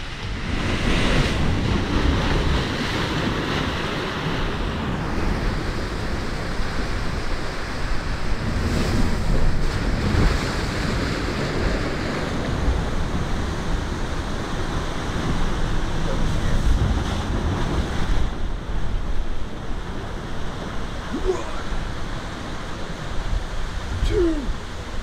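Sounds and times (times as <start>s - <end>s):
sea surf washing in: 0.0s - 25.0s
wind buffeting microphone: 0.0s - 25.0s.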